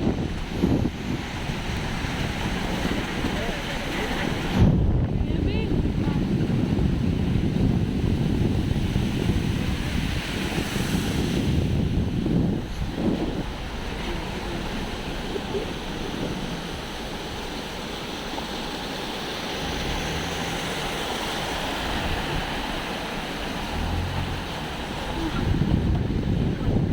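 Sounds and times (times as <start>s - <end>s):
steady rushing outdoor noise: 0.0s - 26.9s
wind rumbling on microphone: 0.0s - 26.9s.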